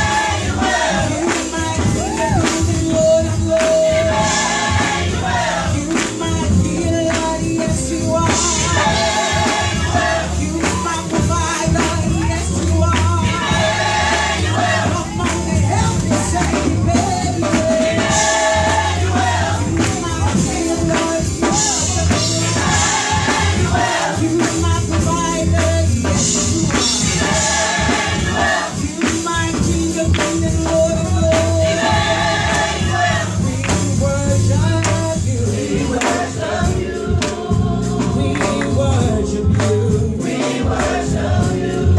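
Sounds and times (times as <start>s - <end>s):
gospel choir singing: 0.0s - 41.9s
steady beat: 0.0s - 41.9s.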